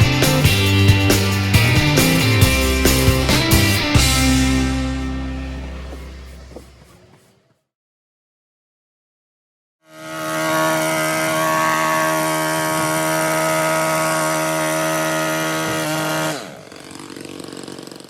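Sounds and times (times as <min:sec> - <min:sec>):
power tool motor running: 0:00.1 - 0:07.6, 0:09.9 - 0:18.0.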